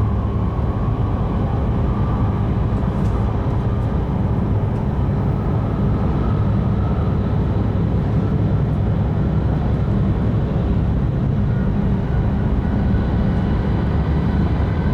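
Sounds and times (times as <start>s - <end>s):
train low rumble inside cabin: 0.0s - 14.9s.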